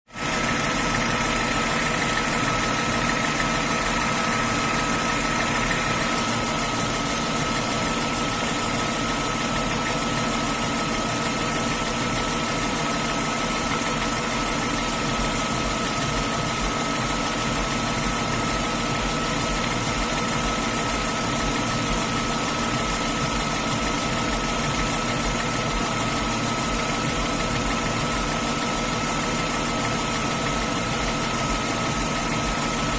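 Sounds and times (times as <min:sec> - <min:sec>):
car engine idling with knock: 0:00.1 - 0:32.9.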